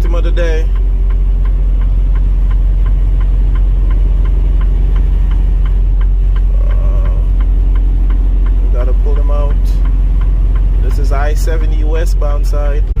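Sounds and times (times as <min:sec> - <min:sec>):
light ticking: 0:00.0 - 0:13.0
truck engine and road rumble: 0:00.0 - 0:13.0.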